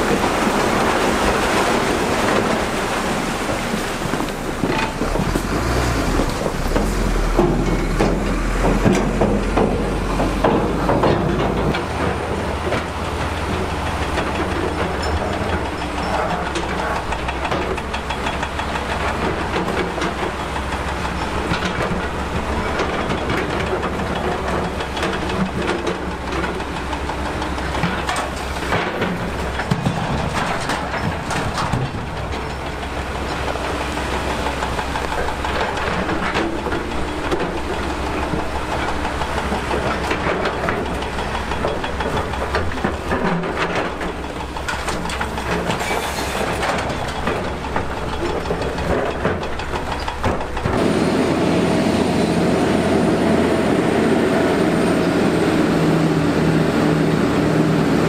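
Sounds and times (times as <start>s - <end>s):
bulldozer diesel engine: 0.0s - 58.0s
steel tracks clanking and rattling: 0.0s - 58.0s.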